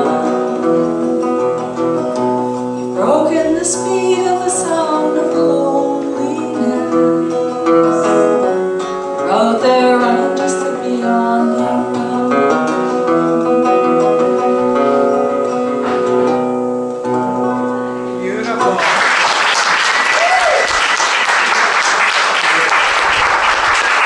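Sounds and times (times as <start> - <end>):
acoustic guitar playing: 0.0 - 20.1.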